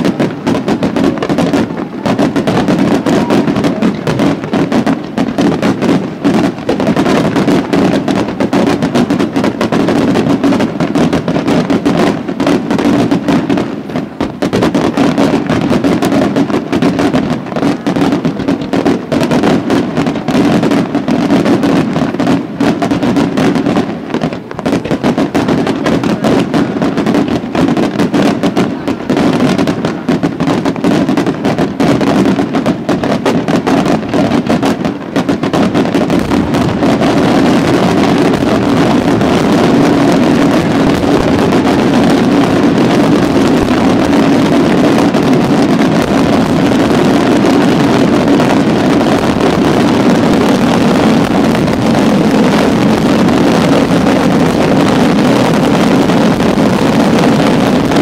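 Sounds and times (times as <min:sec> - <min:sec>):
firework shells bursting: 0:00.0 - 0:58.0
fireworks crackling: 0:00.0 - 0:58.0.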